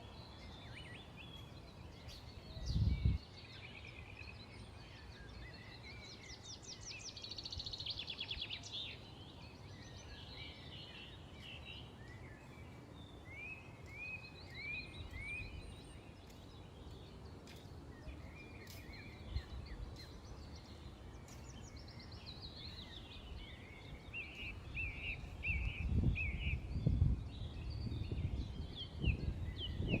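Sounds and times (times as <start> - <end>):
small birds chirping and trilling: 0.0 - 30.0.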